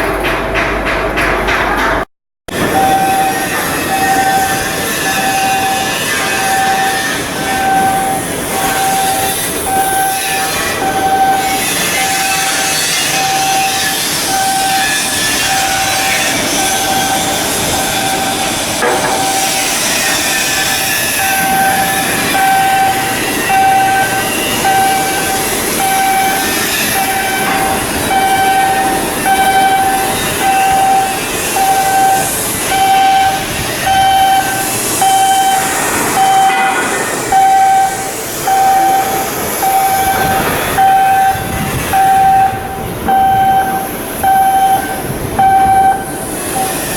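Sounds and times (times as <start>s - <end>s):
industrial noise: 0.0s - 46.9s
electronic warning beeper: 2.6s - 46.9s.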